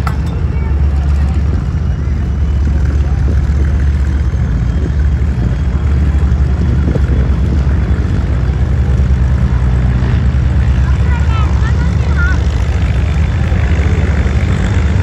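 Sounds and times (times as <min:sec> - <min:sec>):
radial engine throbbing: 0:00.0 - 0:15.0.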